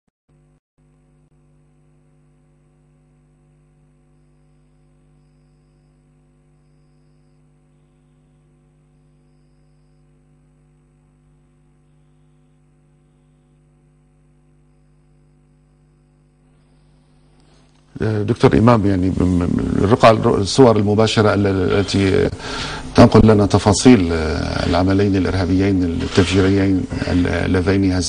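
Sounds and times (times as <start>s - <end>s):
electrical mains hum: 0.3s - 28.0s.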